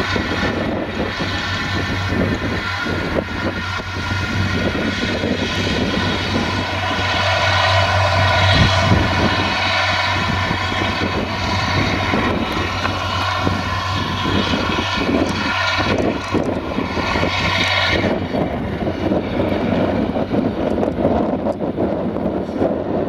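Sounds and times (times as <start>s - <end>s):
tractor engine mowing: 0.0s - 21.8s
wind on microphone: 0.0s - 23.0s.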